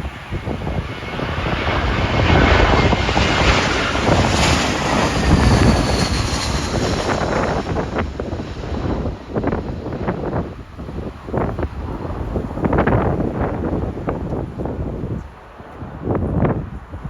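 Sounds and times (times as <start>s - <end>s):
jet airliner passing overhead: 0.0s - 17.0s
jet engine whine: 0.0s - 17.0s
wind buffeting microphone: 0.0s - 17.0s.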